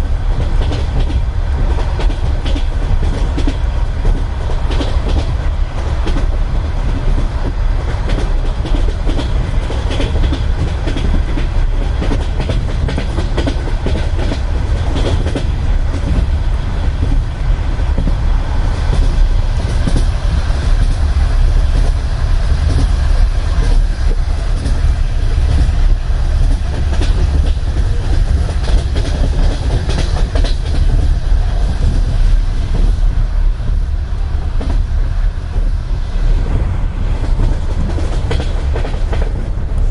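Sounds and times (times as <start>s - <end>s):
train wheels clattering over rail joints: 0.0s - 33.9s, 34.5s - 39.9s
low rumble of running train: 0.0s - 39.9s.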